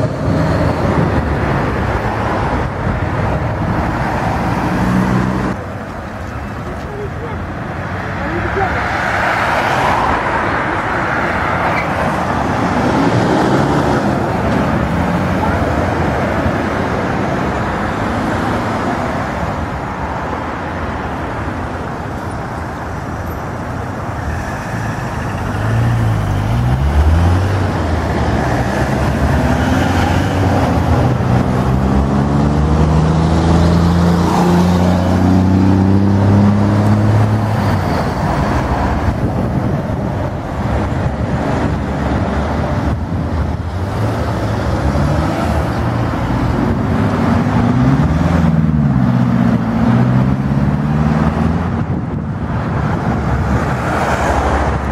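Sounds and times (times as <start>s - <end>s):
road traffic: 0.0s - 54.9s.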